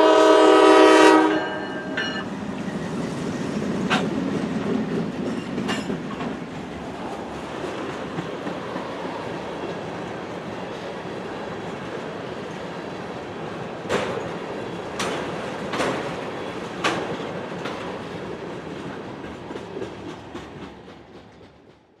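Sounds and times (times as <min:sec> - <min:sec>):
train cars rumbling past: 0:00.0 - 0:22.0.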